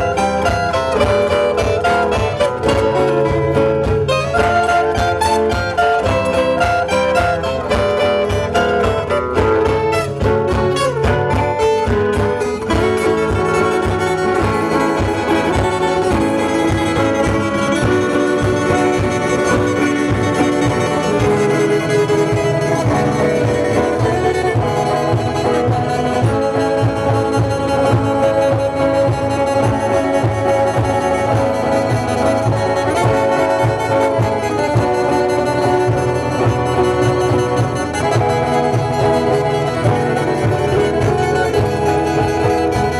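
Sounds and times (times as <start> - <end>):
band playing instrumental: 0.0 - 42.9
low bass beat: 0.0 - 42.9.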